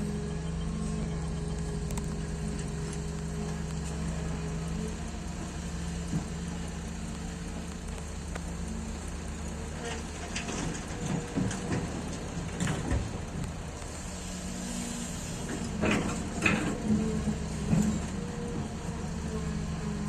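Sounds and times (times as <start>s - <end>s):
excavator engine drone: 0.0s - 20.0s.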